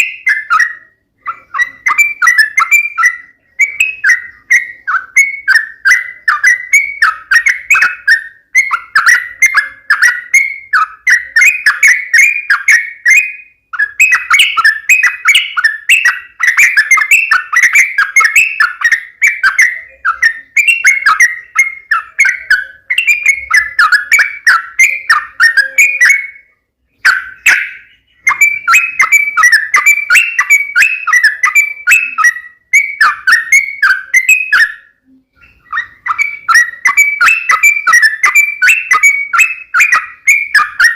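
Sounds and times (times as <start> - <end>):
bird singing rapid chattering phrases: 0.0 - 40.9.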